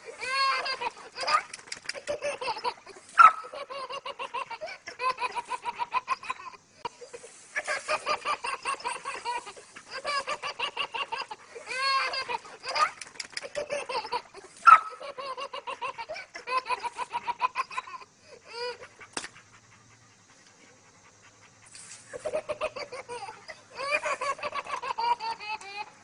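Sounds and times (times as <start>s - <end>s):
baby giggling: 0.1s - 18.8s, 22.2s - 26.0s.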